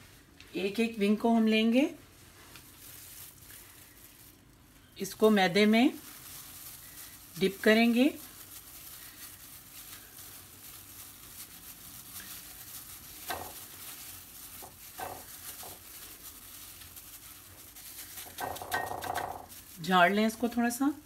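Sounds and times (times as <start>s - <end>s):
faint steady hiss: 0.0s - 21.0s
gloved hand rustling in flour: 1.7s - 21.0s.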